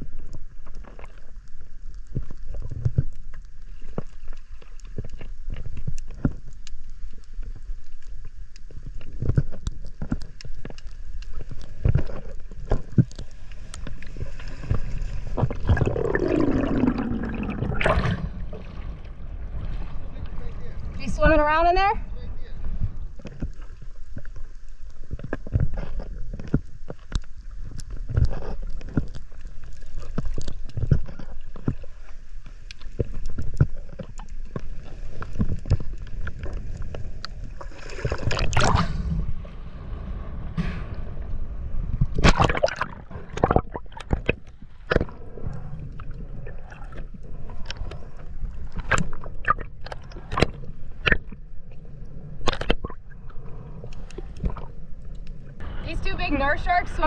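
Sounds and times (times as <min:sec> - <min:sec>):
splashing and bubbling: 0:00.0 - 0:21.9, 0:22.7 - 0:55.6
muffled underwater rush and gurgle: 0:00.0 - 0:57.0.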